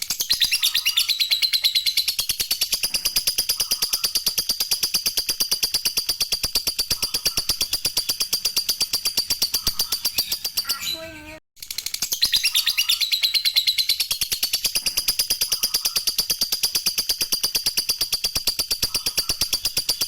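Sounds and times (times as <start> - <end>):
lovebird chattering trill: 0.2 - 11.4, 12.0 - 20.0.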